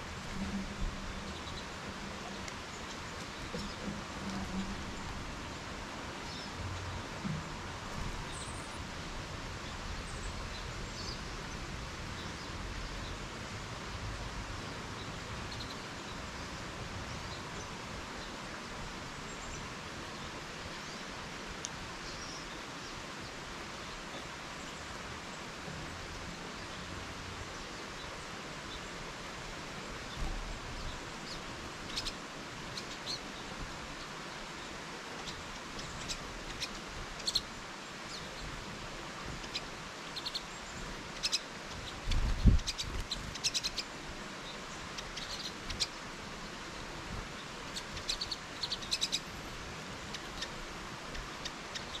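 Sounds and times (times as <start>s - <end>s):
background hiss: 0.0s - 52.0s
songbirds chirping: 0.0s - 52.0s.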